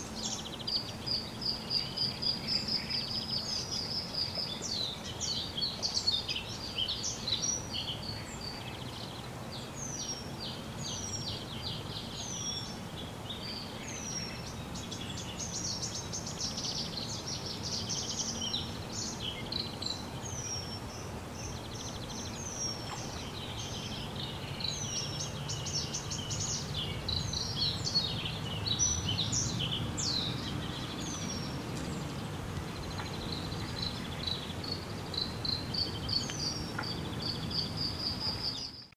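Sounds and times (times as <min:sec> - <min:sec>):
birds chirping and whistling: 0:00.0 - 0:38.9.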